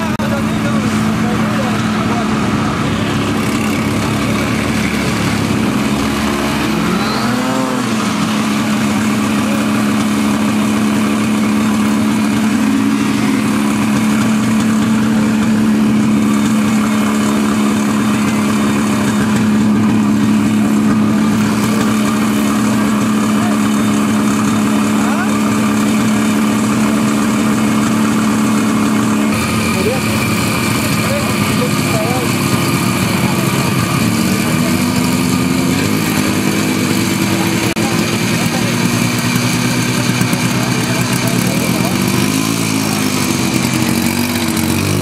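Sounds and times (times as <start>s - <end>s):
snowmobile engine idling: 0.0s - 45.0s.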